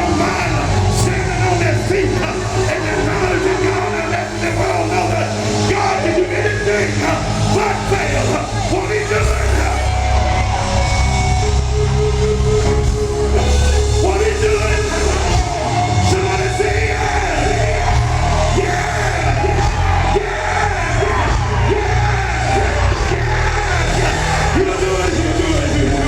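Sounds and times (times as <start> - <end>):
man singing and shouting: 0.0 - 10.4, 13.2 - 26.0
heavy bass line: 0.0 - 26.0
live band playing: 0.0 - 26.0.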